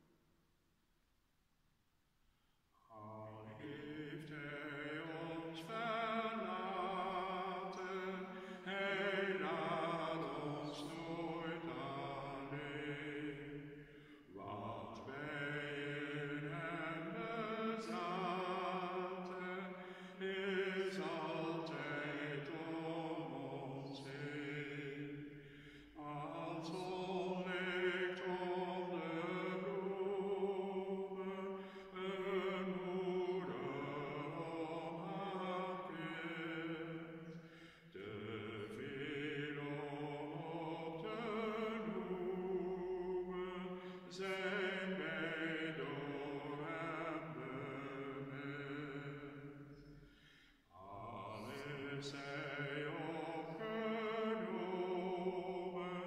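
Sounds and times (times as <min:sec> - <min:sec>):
slow devotional singing: 0:02.7 - 0:56.0.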